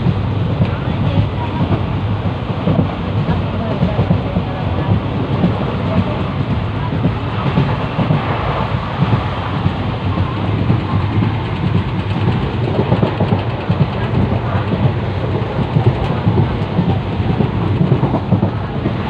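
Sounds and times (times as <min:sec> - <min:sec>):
train running rumble: 0:00.0 - 0:19.0
wheels and carriage rattling: 0:00.0 - 0:19.0.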